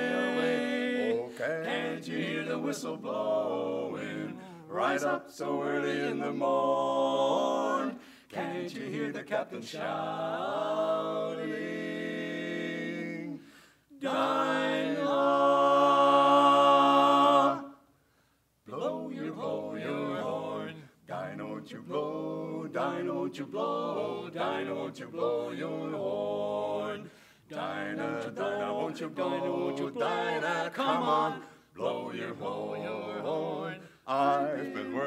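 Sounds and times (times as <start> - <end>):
male quartet singing a cappella: 0.0 - 17.9, 18.7 - 35.0.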